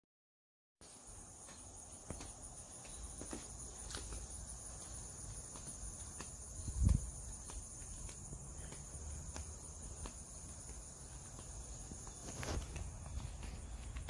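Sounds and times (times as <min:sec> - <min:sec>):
insects chirring: 0:00.8 - 0:14.0
soft footsteps: 0:00.8 - 0:14.0.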